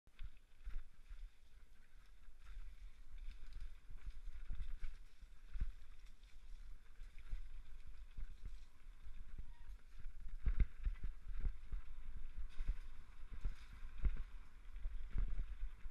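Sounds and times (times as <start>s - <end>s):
wind and trail rumble: 0.2s - 15.9s.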